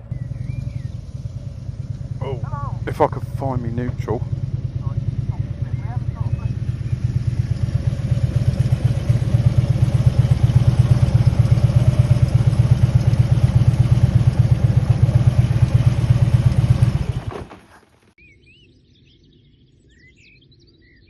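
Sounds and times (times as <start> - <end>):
motorcycle idling: 0.0 - 18.0.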